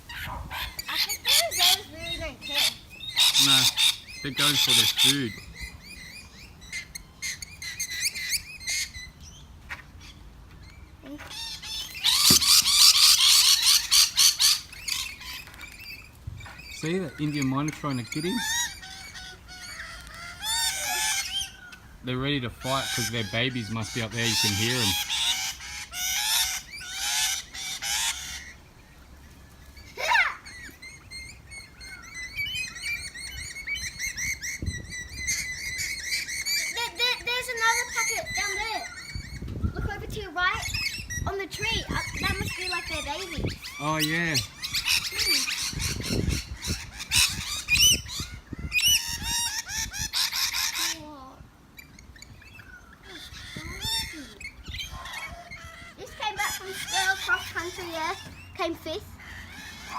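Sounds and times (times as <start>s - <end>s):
high chirps and chatter: 0.0s - 59.9s
lorikeets screeching: 0.0s - 59.9s.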